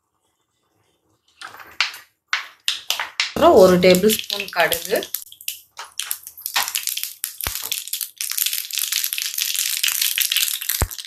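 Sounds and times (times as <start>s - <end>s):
seeds crackling in hot oil: 1.8s - 11.0s.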